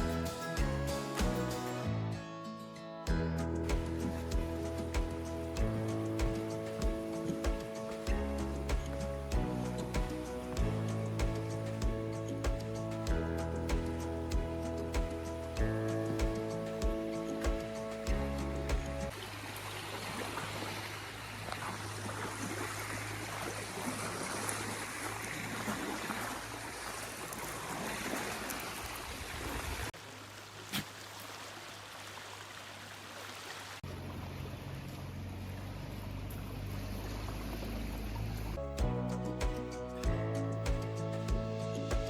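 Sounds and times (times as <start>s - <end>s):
running water rushing: 0.0s - 2.2s, 3.1s - 42.0s.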